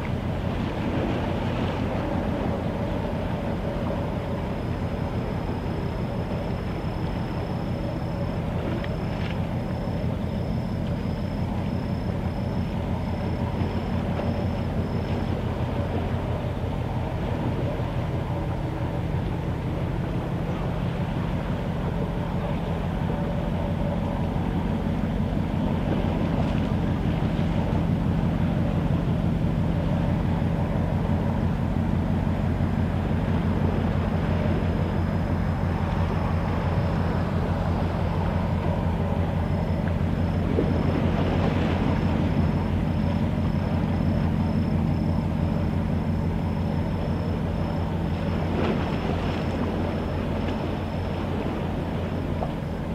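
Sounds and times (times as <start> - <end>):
ship machinery drone: 0.0 - 52.9.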